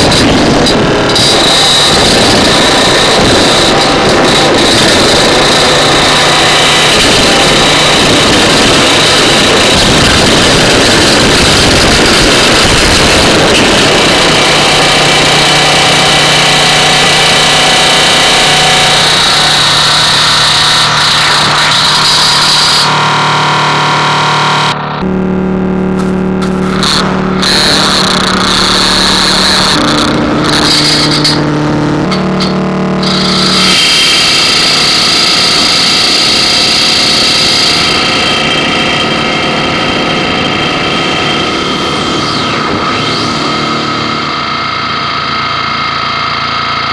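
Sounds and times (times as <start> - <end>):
distorted noise music drone: 0.0 - 46.9
high whining tones: 0.0 - 46.9
low hum: 0.0 - 46.9.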